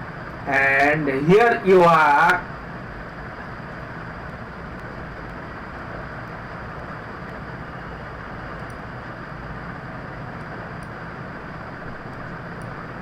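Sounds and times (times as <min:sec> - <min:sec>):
steady hiss and rumble: 0:00.0 - 0:13.0.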